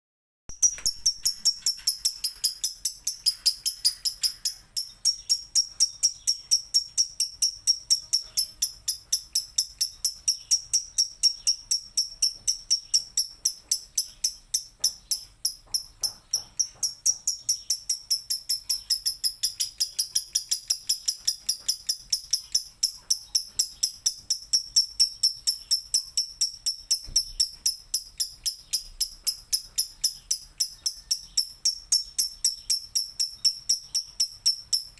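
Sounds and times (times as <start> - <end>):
lovebird trilling: 0.5 - 34.9.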